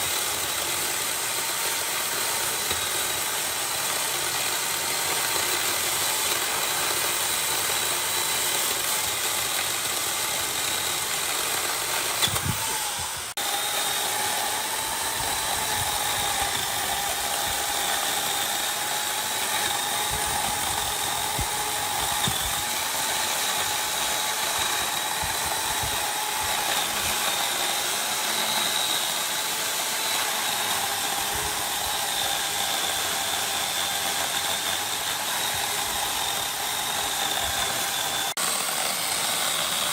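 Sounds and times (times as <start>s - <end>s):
power tool whining on wood: 0.0s - 39.9s.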